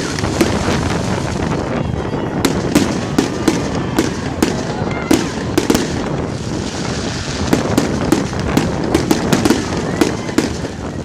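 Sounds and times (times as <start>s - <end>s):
firework shells bursting: 0.0s - 1.7s, 2.4s - 11.0s
firework crackle: 0.0s - 11.0s.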